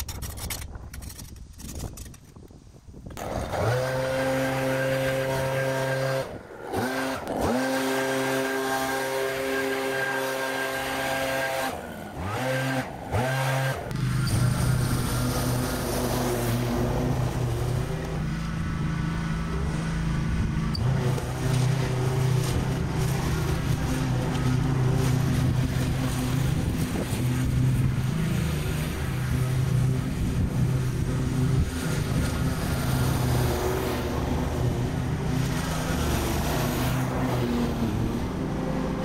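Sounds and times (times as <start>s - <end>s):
mower engine cutting grass: 0.0s - 39.0s
leaf blower engine: 3.2s - 39.0s.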